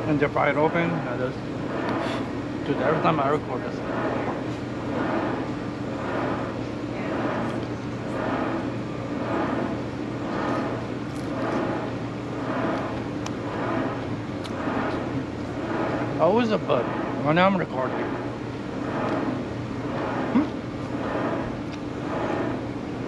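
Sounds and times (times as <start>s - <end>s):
motor drone pulsing: 0.0s - 23.0s.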